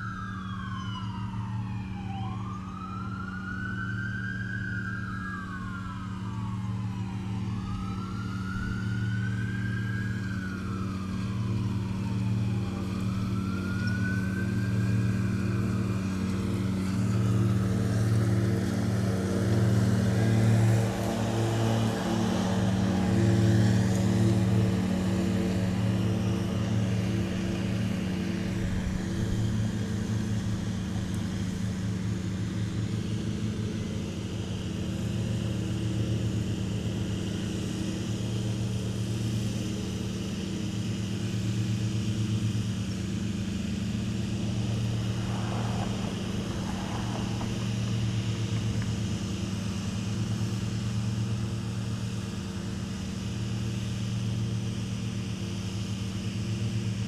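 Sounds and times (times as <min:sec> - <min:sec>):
lawn mower engines droning: 0:00.0 - 0:57.0.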